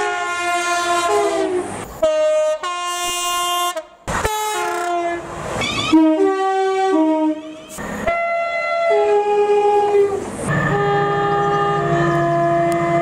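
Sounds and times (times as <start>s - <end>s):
diesel locomotive horn: 0.0s - 13.0s
two-tone train horn: 0.0s - 13.0s.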